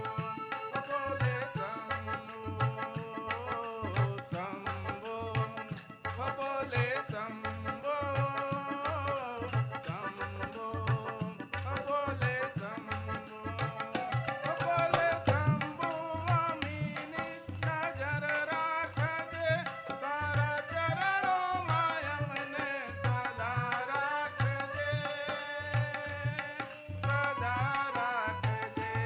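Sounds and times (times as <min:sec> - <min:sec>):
dholak and tabla beat: 0:00.0 - 0:29.0.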